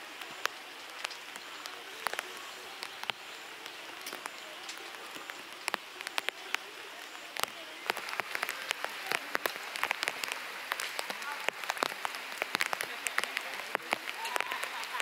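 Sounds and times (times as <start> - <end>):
light rain hiss: 0.0 - 15.0
raindrops ticking on tarp: 0.0 - 15.0.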